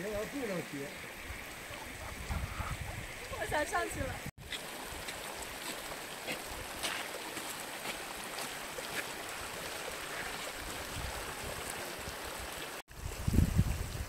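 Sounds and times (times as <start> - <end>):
running water flowing: 0.0 - 14.0
faint ticks and splashes: 0.2 - 12.8.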